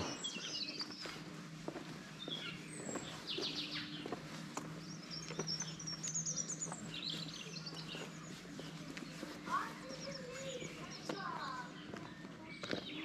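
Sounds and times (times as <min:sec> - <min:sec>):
footsteps on pavement: 0:00.0 - 0:13.0
small birds chirping and trilling: 0:00.0 - 0:13.0.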